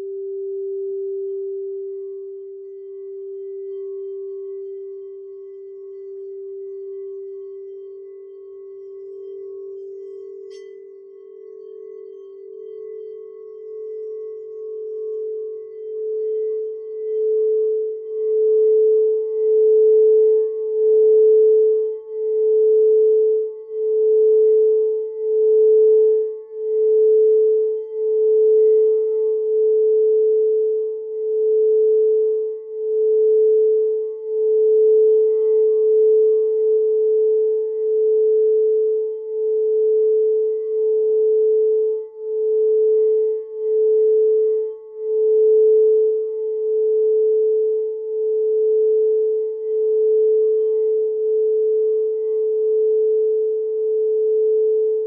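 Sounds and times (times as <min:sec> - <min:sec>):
crystal singing bowl tone: 0:00.0 - 0:55.0
lower singing bowl tone: 0:00.0 - 0:55.0.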